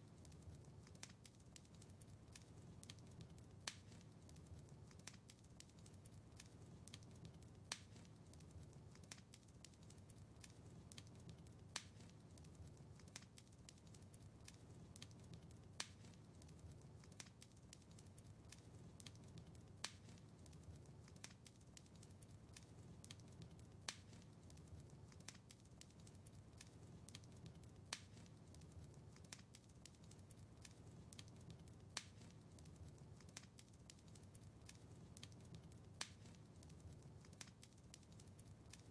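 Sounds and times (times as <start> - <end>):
wood fire crackling: 0.0 - 38.9
sharp fire pops: 0.2 - 34.0, 34.6 - 38.9.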